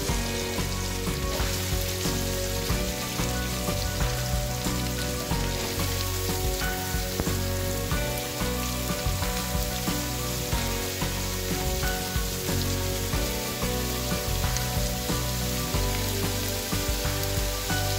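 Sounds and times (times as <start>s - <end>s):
instrumental background music: 0.0s - 17.9s
onions sizzling in hot oil: 0.0s - 17.9s.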